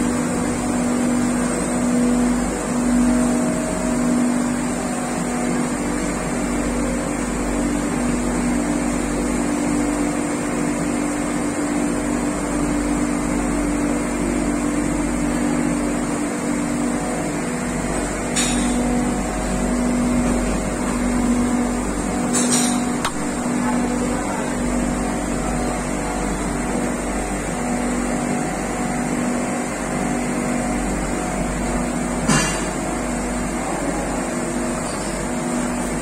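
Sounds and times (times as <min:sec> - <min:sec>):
machinery humming with hiss: 0:00.0 - 0:36.0.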